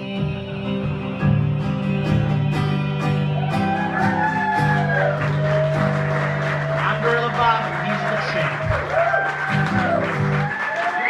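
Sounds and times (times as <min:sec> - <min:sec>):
acoustic guitar strumming: 0:00.0 - 0:08.9, 0:09.5 - 0:10.4.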